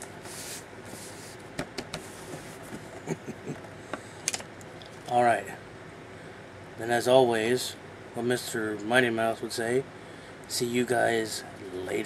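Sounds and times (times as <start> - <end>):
box fan whirring: 0.0 - 12.0.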